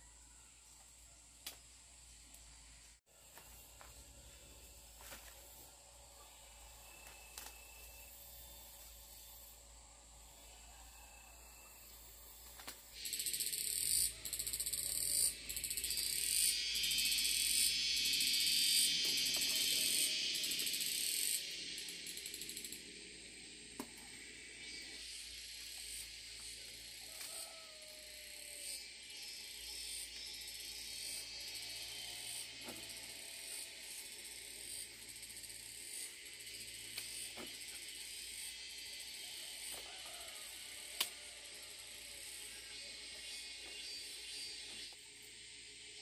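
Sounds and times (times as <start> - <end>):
insects calling shrilly: 0.0 - 46.0.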